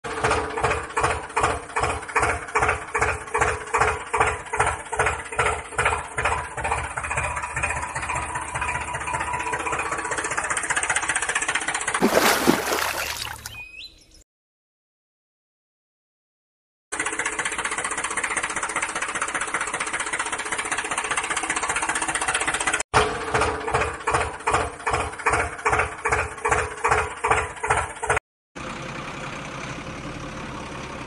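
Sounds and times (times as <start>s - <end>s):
tractor engine chugging: 0.1s - 12.0s, 17.0s - 31.0s.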